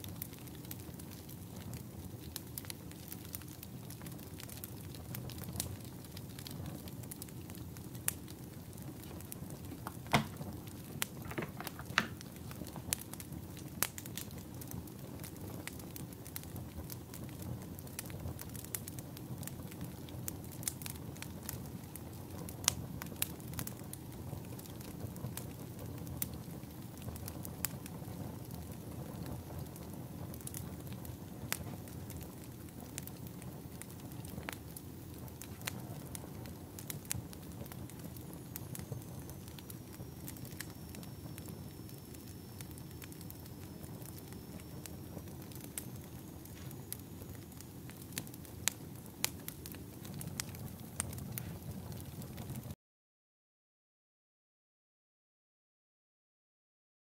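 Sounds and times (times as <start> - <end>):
campfire crackling and popping: 0.0 - 52.8.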